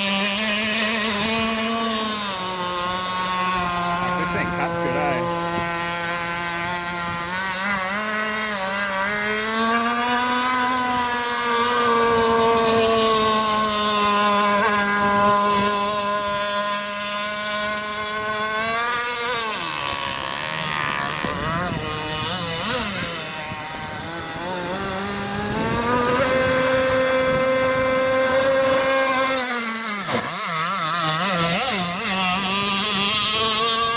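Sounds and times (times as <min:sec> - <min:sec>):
model boat engine running: 0:00.0 - 0:33.9.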